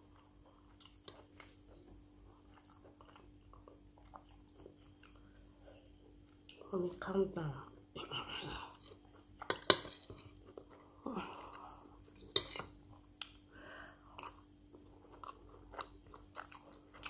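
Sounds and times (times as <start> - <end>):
close-up chewing: 0.0 - 6.7, 8.5 - 17.0.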